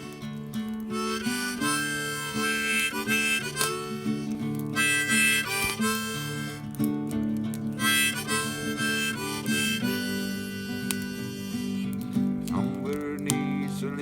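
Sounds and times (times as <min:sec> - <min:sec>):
harmonica melody: 0:00.0 - 0:13.2
acoustic guitar: 0:00.0 - 0:14.0.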